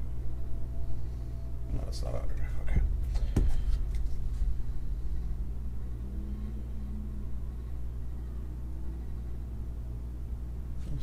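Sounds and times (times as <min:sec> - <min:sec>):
low rumbling room hum: 0:00.0 - 0:11.0.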